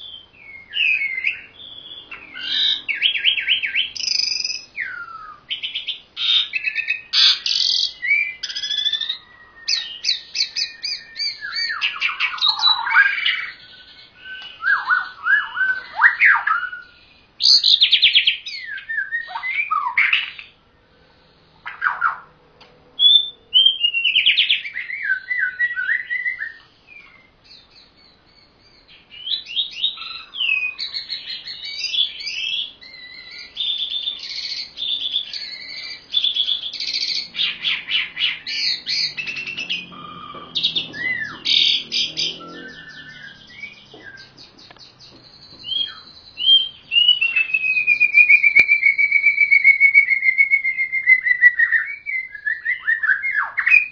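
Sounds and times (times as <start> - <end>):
songbirds whistling and trilling: 0.0 - 53.9.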